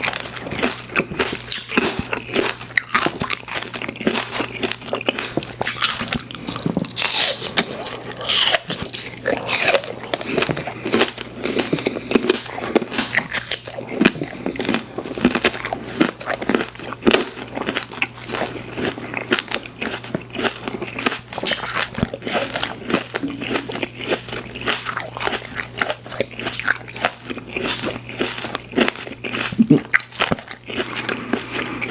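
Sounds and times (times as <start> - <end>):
crunching candy: 0.0 - 31.9
steady low hum: 0.0 - 31.9.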